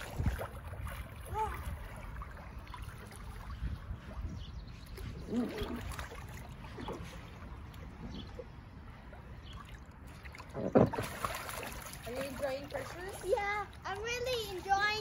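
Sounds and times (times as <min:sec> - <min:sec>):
water splashing in pool: 0:00.0 - 0:04.2, 0:04.9 - 0:15.0.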